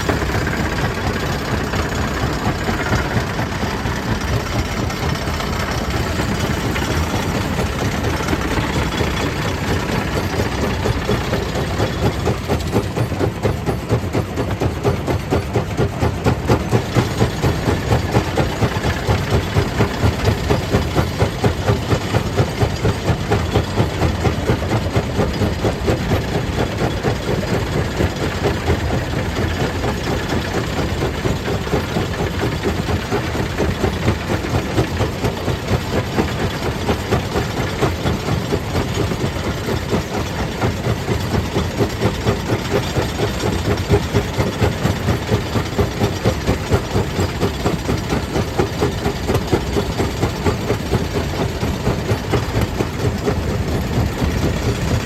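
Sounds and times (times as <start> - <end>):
stone crusher pulsing drone: 0.0 - 55.0.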